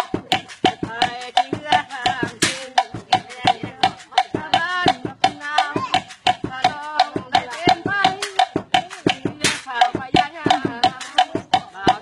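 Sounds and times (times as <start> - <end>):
knocks on wooden log drum: 0.0 - 12.0.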